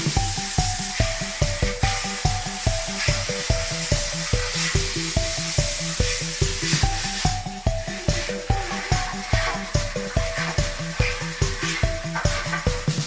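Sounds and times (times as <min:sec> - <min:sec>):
background music with quick beat: 0:00.0 - 0:13.0
water spray hissing: 0:00.0 - 0:13.0.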